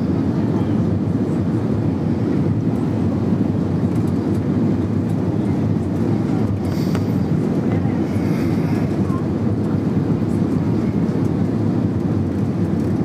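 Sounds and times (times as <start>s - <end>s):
airplane cabin hum: 0.0s - 13.0s.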